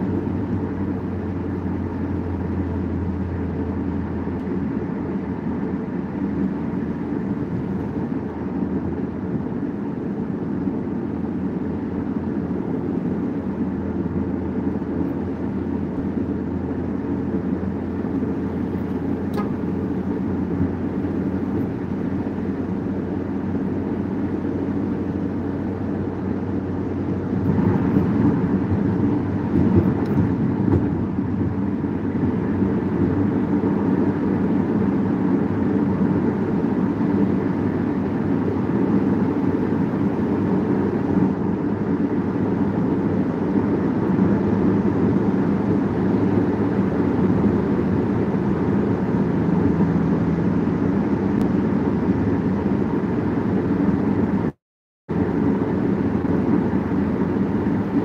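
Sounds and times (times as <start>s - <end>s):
road and engine noise inside car: 0.0s - 58.0s.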